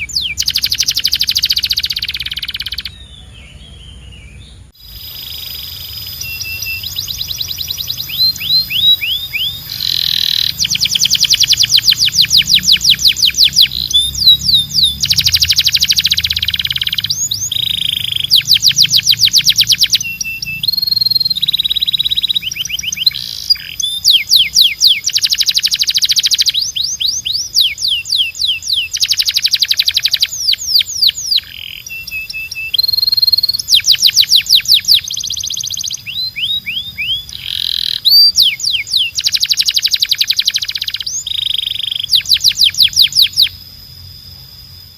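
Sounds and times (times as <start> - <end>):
canary singing: 0.0 - 44.1.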